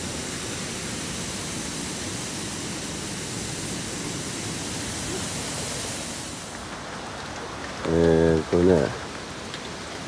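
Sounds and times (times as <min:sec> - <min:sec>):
rushing stream: 0:00.0 - 0:10.0.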